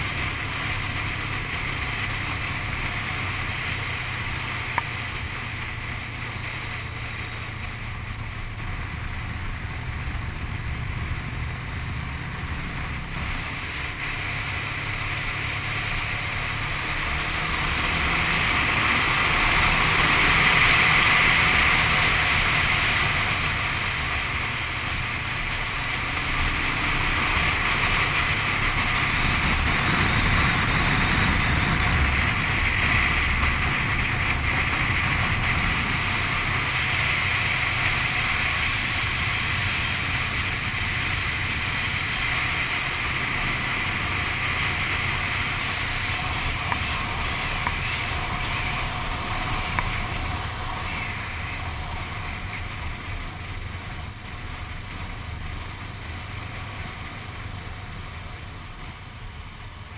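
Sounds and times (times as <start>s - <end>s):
motorcycle engine drone: 0.0s - 59.9s.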